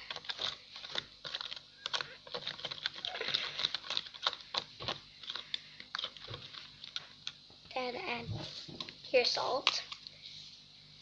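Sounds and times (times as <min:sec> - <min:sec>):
spoon stirring slime: 0:00.0 - 0:10.2.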